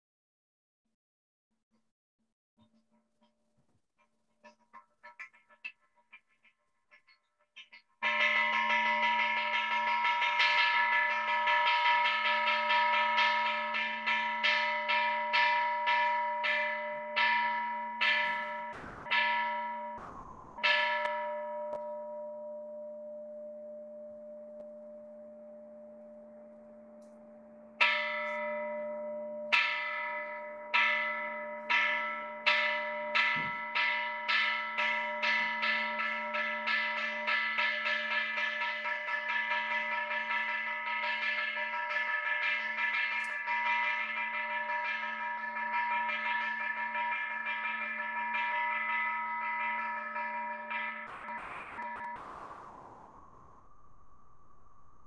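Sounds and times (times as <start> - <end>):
temple bell ringing: 8.0 - 53.5.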